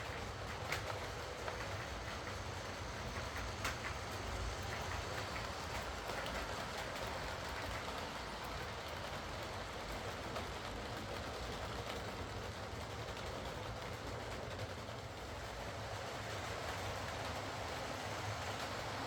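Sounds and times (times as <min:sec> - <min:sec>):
wheels rolling on rails: 0:00.0 - 0:19.0.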